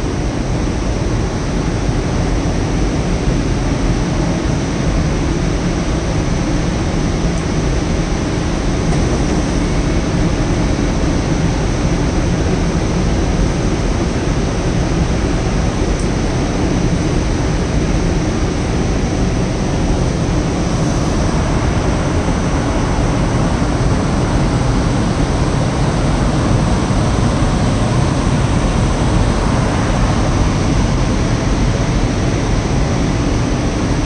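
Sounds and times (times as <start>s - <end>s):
locomotive cooling blowers humming: 0.0s - 34.0s.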